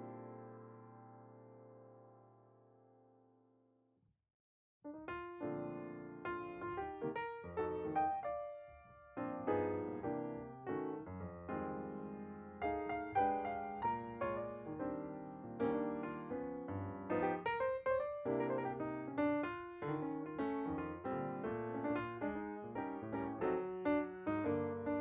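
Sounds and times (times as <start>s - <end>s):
gentle piano music: 0.0s - 3.4s, 4.9s - 25.0s.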